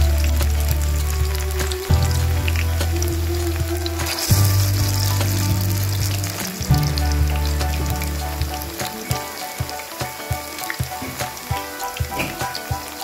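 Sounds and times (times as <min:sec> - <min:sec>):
background music: 0:00.0 - 0:13.0
food deep-frying in oil: 0:00.0 - 0:13.0.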